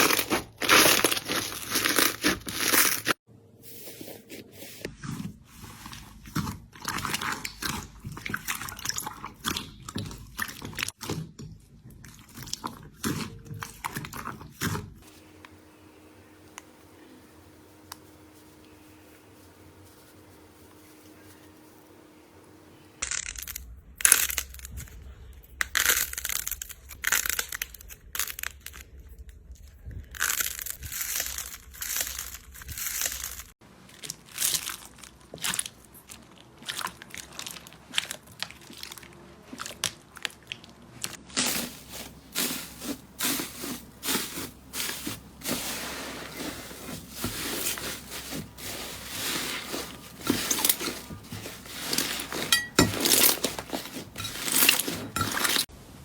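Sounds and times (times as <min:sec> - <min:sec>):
slime crunching and crackling: 0:00.0 - 0:03.2, 0:05.1 - 0:15.1, 0:23.0 - 0:55.7.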